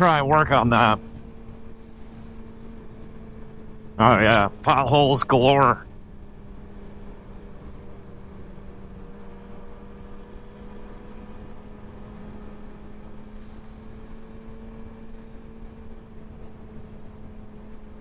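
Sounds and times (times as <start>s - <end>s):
motorcycle engine droning: 0.0s - 18.0s
wind and road noise: 0.0s - 18.0s.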